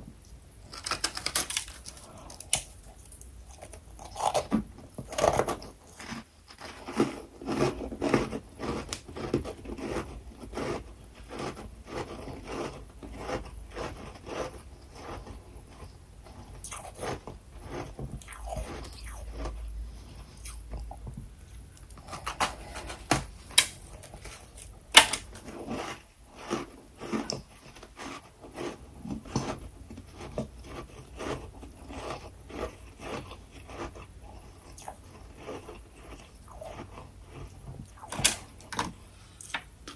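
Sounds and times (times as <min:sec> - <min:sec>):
crunchy frost chewing: 0:00.7 - 0:23.0, 0:23.6 - 0:38.7.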